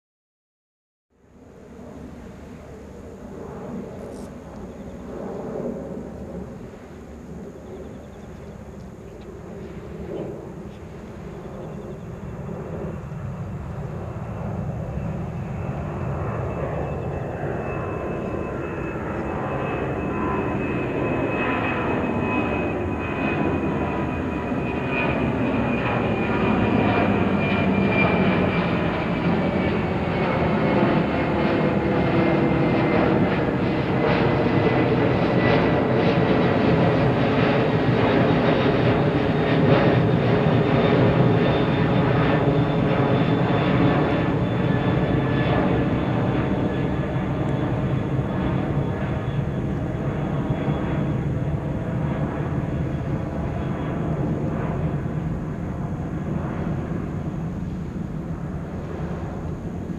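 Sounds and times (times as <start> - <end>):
jet airliner passing overhead: 1.1 - 59.9.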